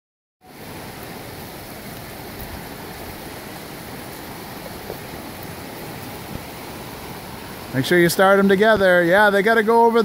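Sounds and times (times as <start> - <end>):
river water rushing over rocks: 0.5 - 10.0.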